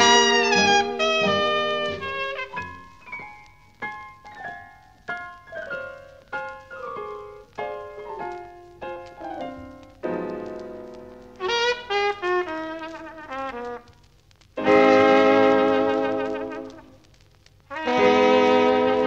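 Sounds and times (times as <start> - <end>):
jazz piano chords: 0.0 - 19.0.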